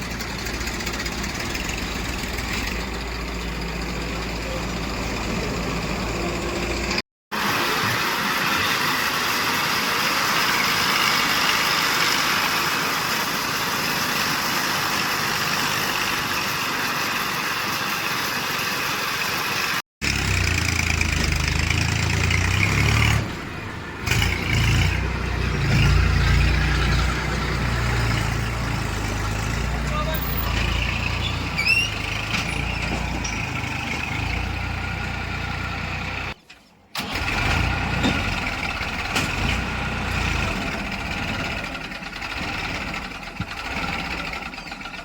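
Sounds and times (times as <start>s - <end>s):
deep diesel engine: 0.0s - 45.0s.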